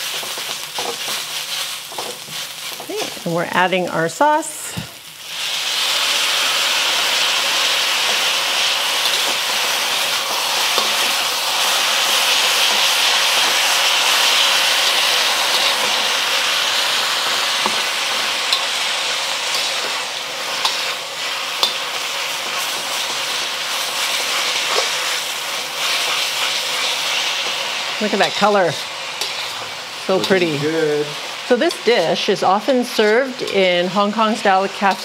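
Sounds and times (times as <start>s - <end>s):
noodles sizzling in a wok: 0.0s - 35.0s.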